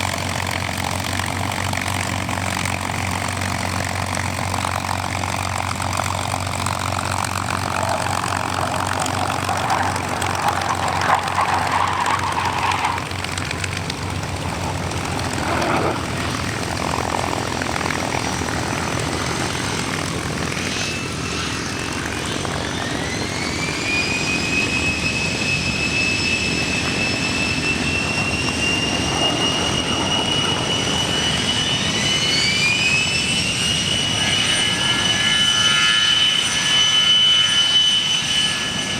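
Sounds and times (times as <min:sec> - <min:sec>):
aircraft engines running: 0:00.0 - 0:38.9
high whine: 0:04.2 - 0:38.9.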